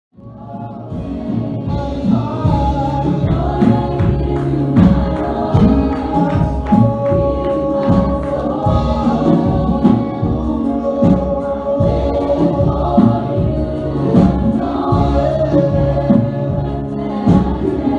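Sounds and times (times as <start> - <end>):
choir singing gospel: 0.2 - 17.9
instrumental accompaniment with percussion: 0.3 - 17.9.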